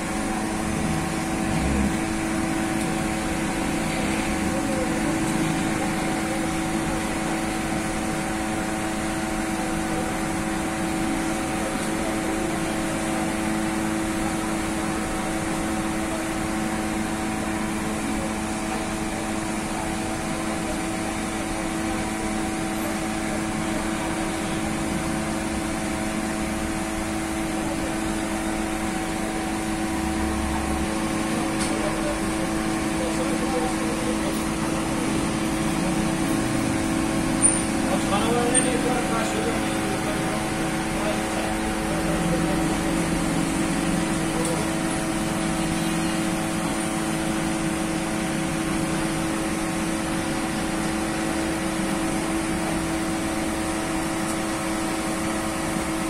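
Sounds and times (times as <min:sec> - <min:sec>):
bakery machinery humming: 0:00.0 - 0:56.0.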